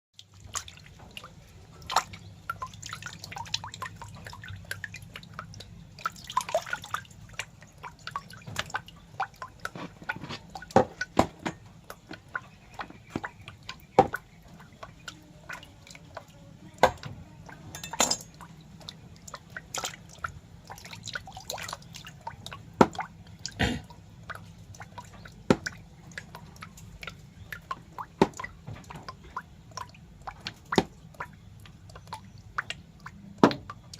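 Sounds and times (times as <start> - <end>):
wet clicks and drips: 0.2 - 33.9.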